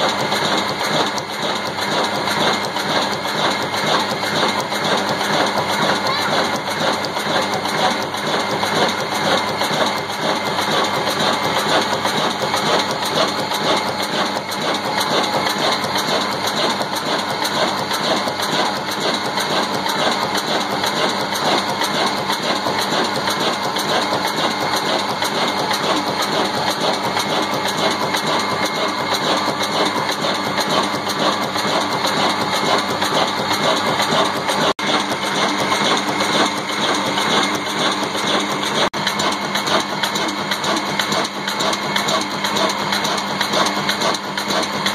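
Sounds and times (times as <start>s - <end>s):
diesel engine clattering: 0.0s - 44.9s.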